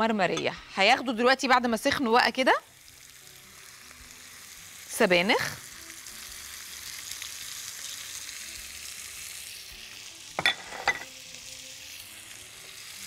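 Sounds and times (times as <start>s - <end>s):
potatoes sizzling in a frying pan: 0.2s - 13.0s.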